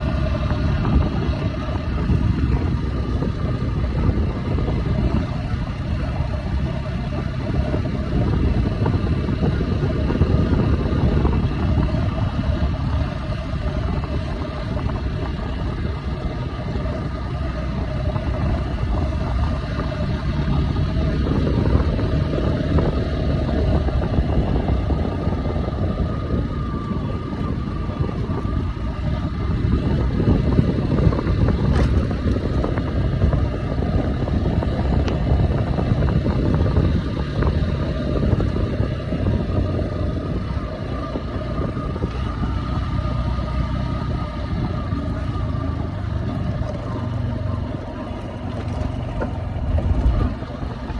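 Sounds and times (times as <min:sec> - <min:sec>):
motorcycle engine running: 0:00.0 - 0:50.9
wind rumbling on microphone: 0:00.0 - 0:50.9.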